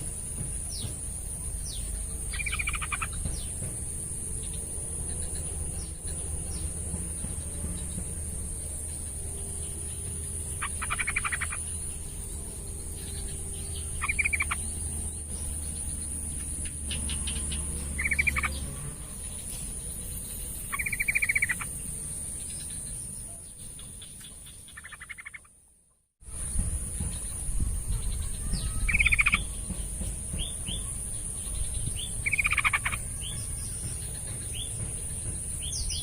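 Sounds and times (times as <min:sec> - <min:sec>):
bird singing chattering phrases: 0:00.1 - 0:08.0, 0:08.9 - 0:21.8, 0:22.5 - 0:25.5, 0:26.5 - 0:36.0.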